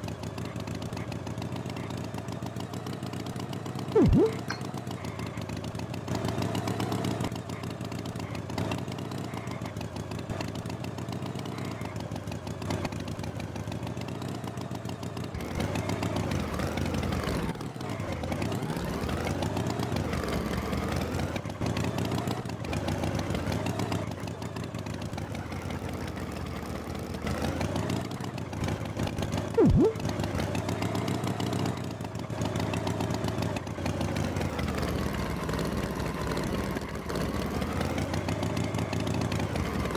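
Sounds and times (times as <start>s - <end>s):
motor engine revving: 2.5s - 39.9s.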